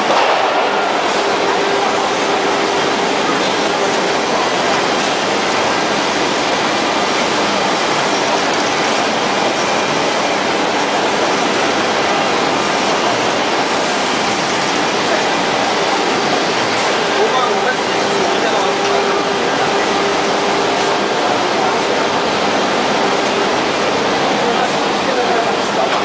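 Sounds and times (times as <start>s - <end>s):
printing machine rushing noise: 0.0s - 26.0s.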